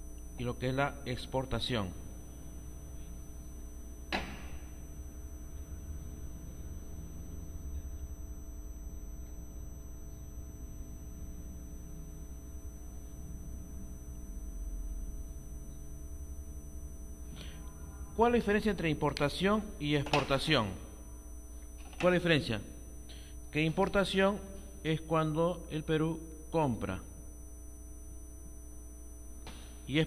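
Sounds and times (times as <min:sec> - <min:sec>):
electrical hum: 0:00.0 - 0:30.0
faint steady tones: 0:00.0 - 0:30.0.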